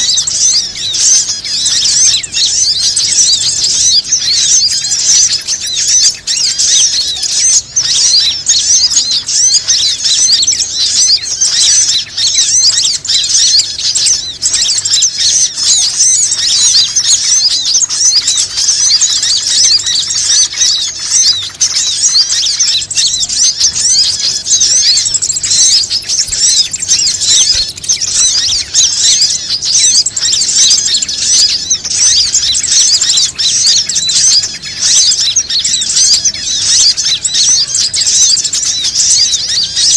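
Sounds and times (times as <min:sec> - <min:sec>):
songbirds chirping chorus: 0:00.0 - 0:39.9.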